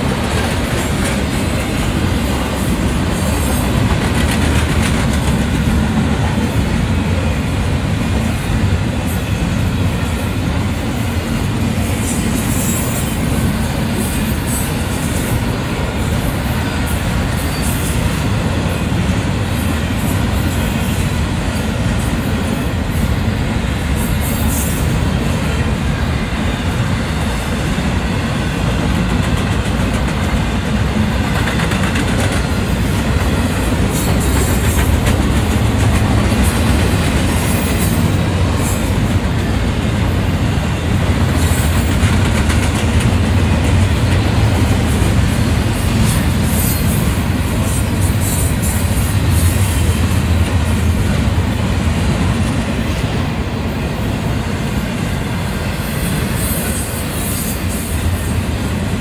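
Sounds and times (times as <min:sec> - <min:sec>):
steel wheels on rails: 0:00.0 - 0:59.0.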